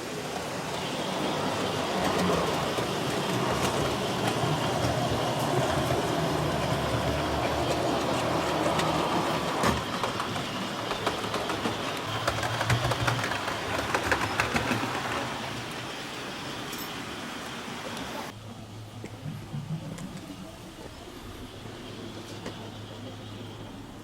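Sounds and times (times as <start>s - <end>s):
model train rolling on track: 0.0s - 24.0s.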